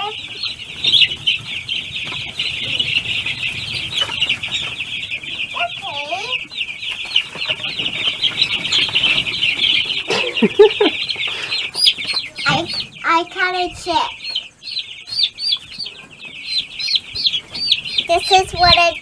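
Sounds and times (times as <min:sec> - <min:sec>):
baby chicks peeping: 0:00.0 - 0:19.0.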